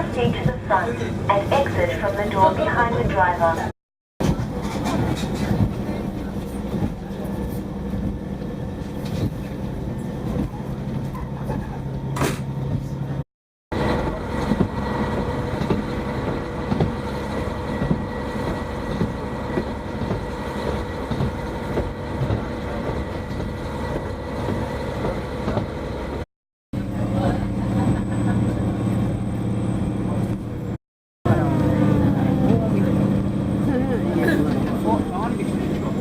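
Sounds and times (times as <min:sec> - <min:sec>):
train engine drone: 0:00.0 - 0:26.2, 0:26.8 - 0:36.0
wheels rumbling on rails: 0:00.0 - 0:36.0.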